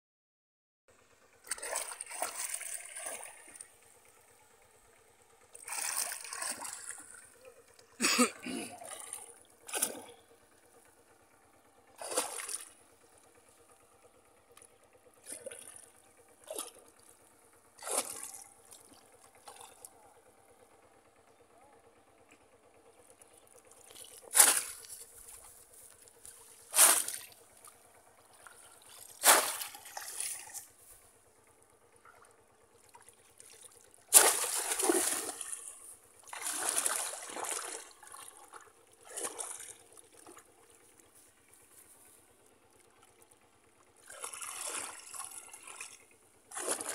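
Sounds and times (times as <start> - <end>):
water splashing and sloshing: 1.1 - 46.9.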